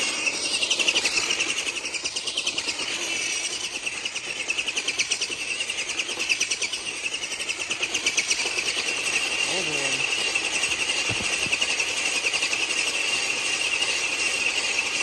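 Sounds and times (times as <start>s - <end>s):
toy truck motor buzzing: 0.0s - 15.0s.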